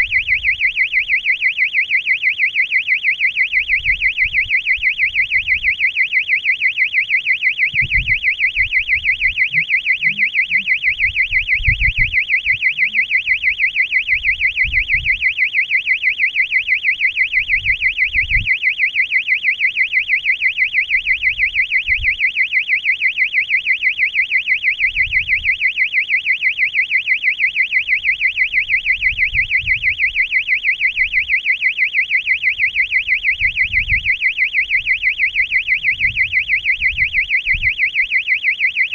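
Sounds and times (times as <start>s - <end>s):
electronic alarm warbling: 0.0s - 38.9s.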